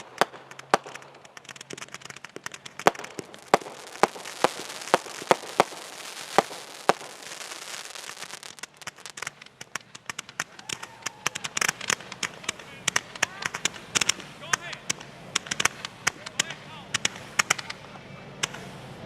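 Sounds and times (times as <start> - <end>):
fireworks banging: 0.0 - 19.0
fireworks crackling pops: 0.0 - 19.0.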